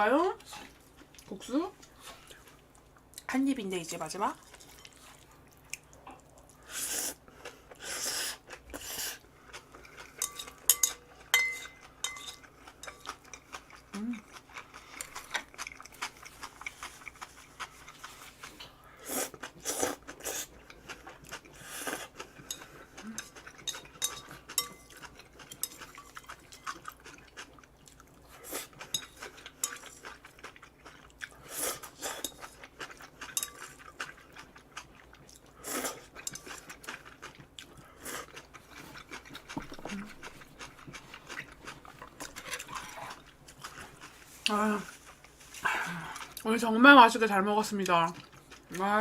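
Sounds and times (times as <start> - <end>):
chewing: 4.4 - 46.5, 47.8 - 49.0.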